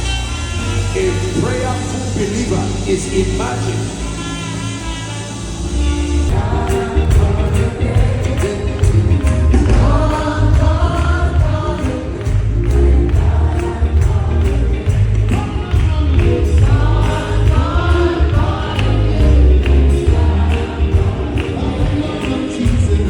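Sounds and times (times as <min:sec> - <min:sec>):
band with heavy bass: 0:00.0 - 0:23.0
gospel choir singing: 0:00.0 - 0:23.0
steady percussion: 0:00.0 - 0:23.0.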